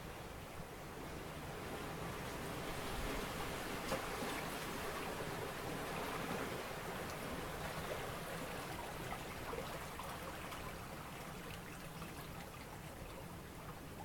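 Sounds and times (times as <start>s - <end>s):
water rushing and trickling: 1.4s - 14.0s.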